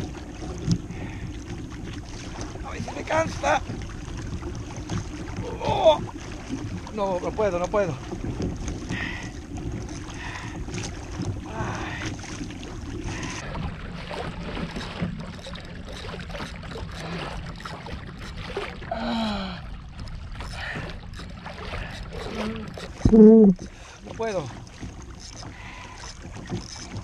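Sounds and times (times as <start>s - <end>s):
water lapping against hull: 0.0s - 27.0s.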